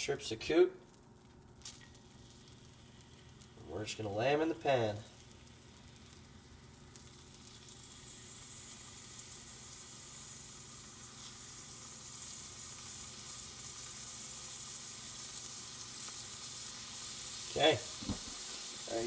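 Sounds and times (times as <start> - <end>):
meat sizzling in butter in a frying pan: 0.9 - 19.0.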